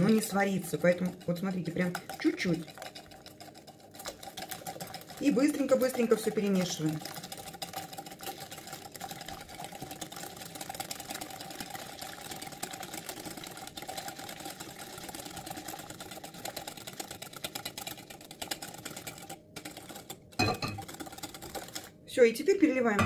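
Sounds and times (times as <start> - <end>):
milk pouring: 0.0 - 22.0
whisk beating glass bowl: 0.0 - 22.0.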